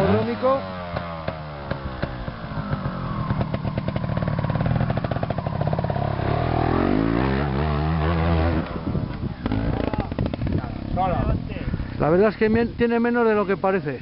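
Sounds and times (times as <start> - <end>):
motorcycle engine revving: 0.0 - 12.2.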